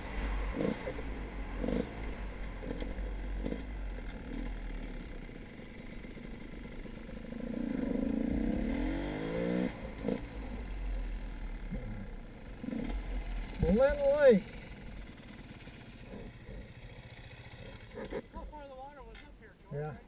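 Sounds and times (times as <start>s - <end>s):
vehicle engine running: 0.0s - 19.4s.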